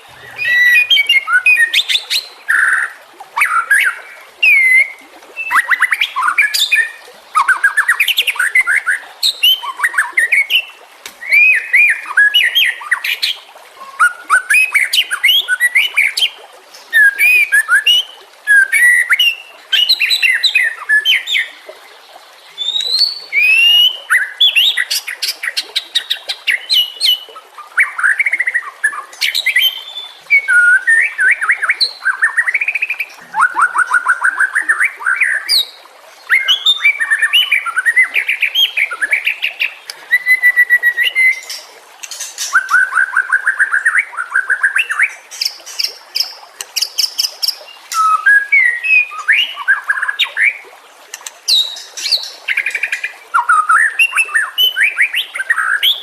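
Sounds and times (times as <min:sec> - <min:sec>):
songbird singing trills and whistles: 0:00.0 - 0:21.5, 0:22.6 - 0:50.6, 0:51.2 - 0:56.0.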